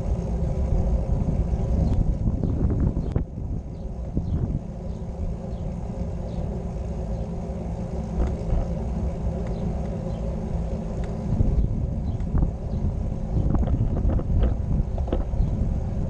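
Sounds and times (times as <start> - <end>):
vehicle rolling along road: 0.0 - 16.0.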